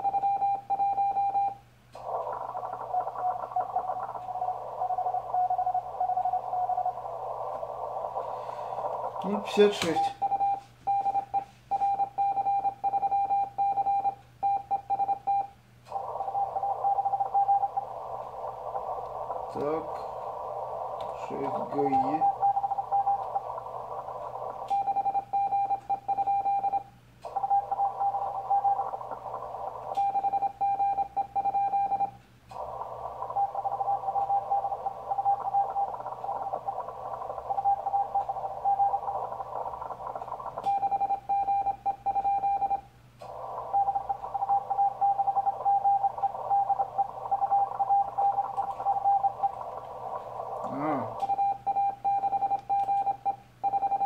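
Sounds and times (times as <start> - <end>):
rapid keyed morse code: 0.0 - 54.0
steady morse tone: 0.0 - 54.0
radio band hiss: 2.0 - 12.1, 15.8 - 31.8, 32.4 - 52.6.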